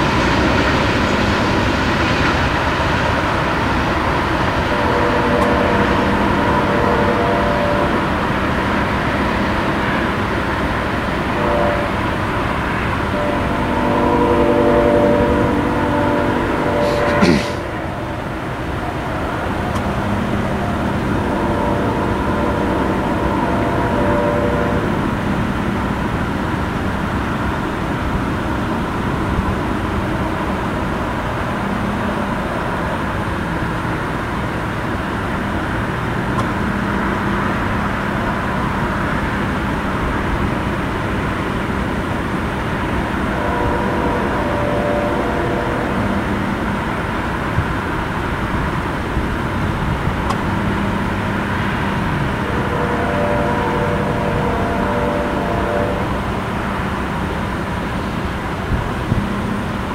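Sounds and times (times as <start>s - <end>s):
train rumbling past: 0.0s - 59.9s
faint humming tones: 3.1s - 34.5s, 36.4s - 59.9s.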